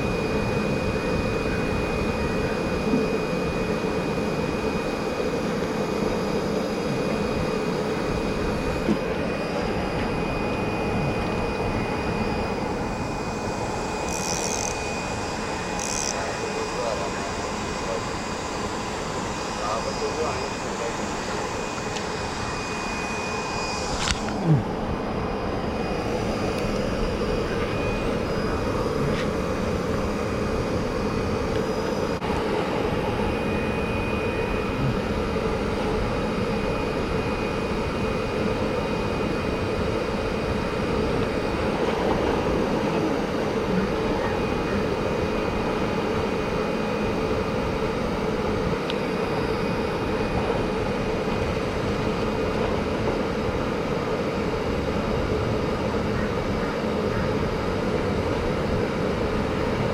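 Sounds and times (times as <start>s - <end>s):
mechanical drone with high whine: 0.0s - 59.9s.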